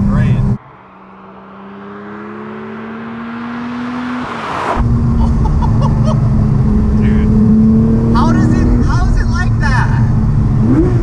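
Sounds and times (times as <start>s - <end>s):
car engine under hard throttle: 0.0s - 11.0s
sports car engine passing by: 0.0s - 11.0s.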